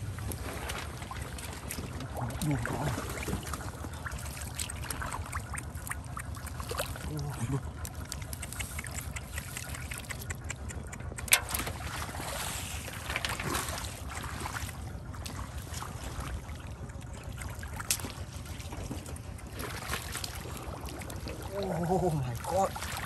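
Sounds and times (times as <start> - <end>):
low rumble: 0.0 - 23.0
muddy water sloshing and splashing: 0.0 - 23.0.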